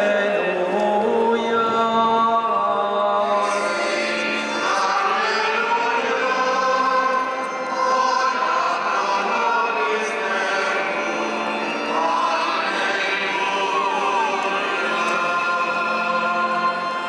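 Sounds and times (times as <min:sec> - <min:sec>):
choir singing slow chant: 0:00.0 - 0:17.0.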